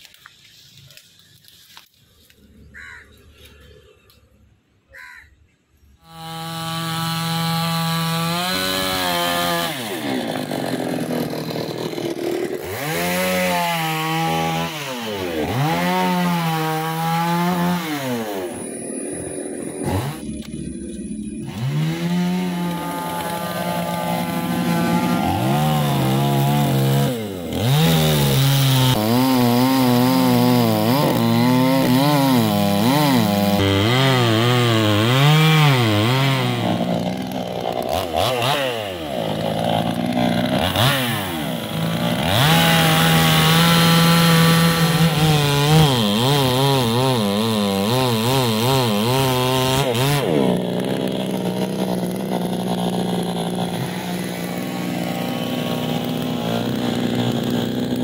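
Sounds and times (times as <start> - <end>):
chainsaw cutting wood: 6.0 - 58.0.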